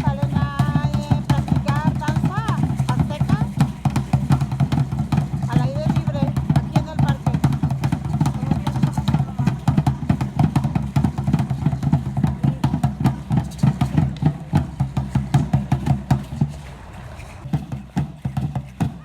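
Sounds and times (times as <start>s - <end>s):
large drum beaten fast: 0.0s - 19.0s.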